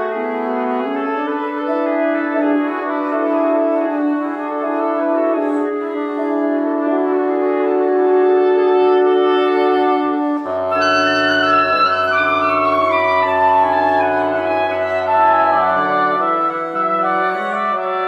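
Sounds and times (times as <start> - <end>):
wind quintet playing chords: 0.0 - 18.0.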